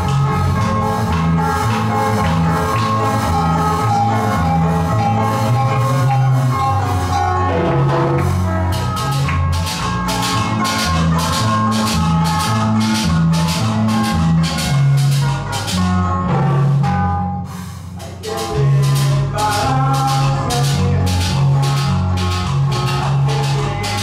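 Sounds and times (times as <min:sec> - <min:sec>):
bass guitar: 0:00.0 - 0:24.0
drums with steady beat: 0:00.0 - 0:24.0
electric guitars: 0:00.0 - 0:24.0
live band playing: 0:00.0 - 0:24.0.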